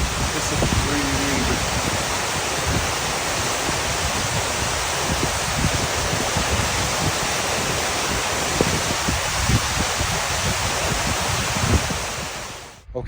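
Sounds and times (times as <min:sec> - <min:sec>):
wind and rain hiss: 0:00.0 - 0:12.8
wind buffeting microphone: 0:00.0 - 0:12.8.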